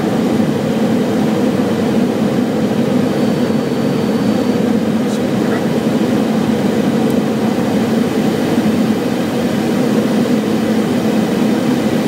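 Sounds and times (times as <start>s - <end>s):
low jet engine drone: 0.0s - 12.0s.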